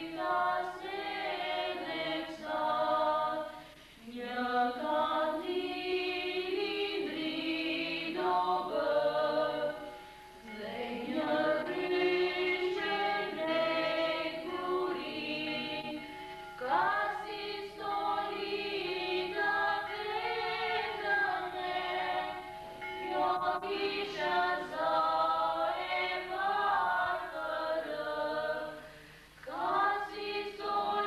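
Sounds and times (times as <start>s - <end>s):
choir singing slow melody: 0.0s - 31.0s.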